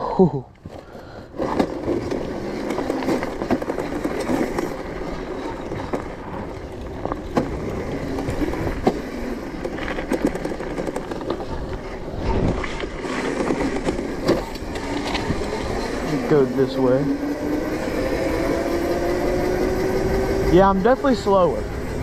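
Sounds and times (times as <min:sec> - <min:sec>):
knocks and rattles over ruts: 0:00.6 - 0:22.0
electric dirt bike motor: 0:00.7 - 0:22.0.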